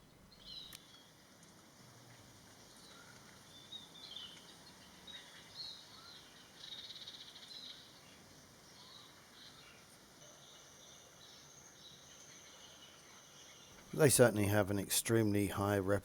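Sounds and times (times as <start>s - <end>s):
low background hiss: 0.0s - 16.0s.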